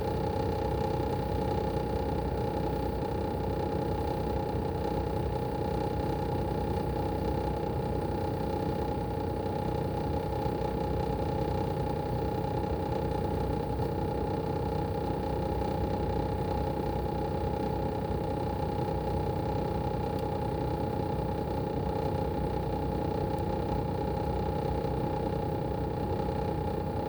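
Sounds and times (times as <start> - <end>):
air conditioner unit whining: 0.0 - 27.0.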